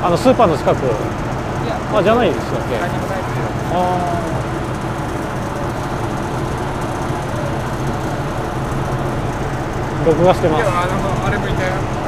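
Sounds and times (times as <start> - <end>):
ferry engines idling: 0.0 - 12.0.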